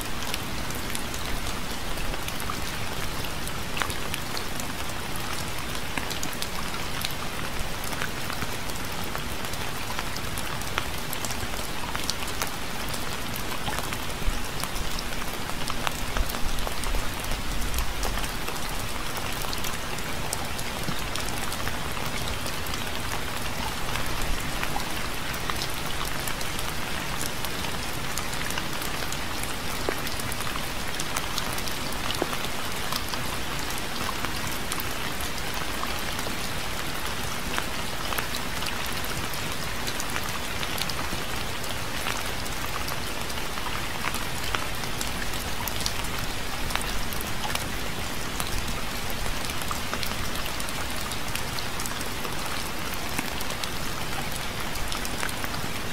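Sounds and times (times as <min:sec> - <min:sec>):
raindrops ticking on a surface: 0:00.0 - 0:55.9.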